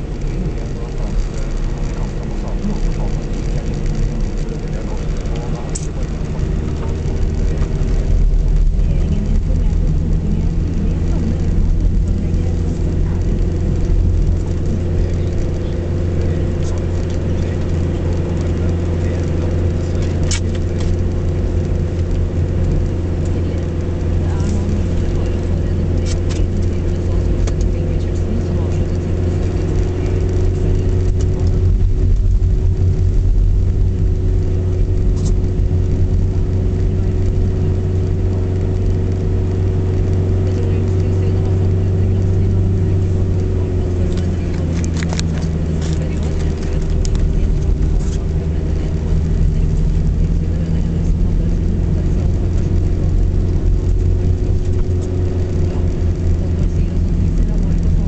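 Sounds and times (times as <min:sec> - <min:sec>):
car engine and tyres droning: 0:00.0 - 0:58.0.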